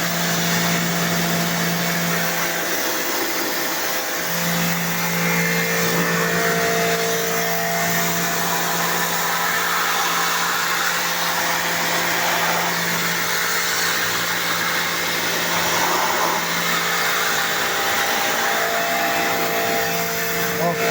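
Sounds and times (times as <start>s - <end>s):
pressure washer motor humming: 0.0s - 20.9s.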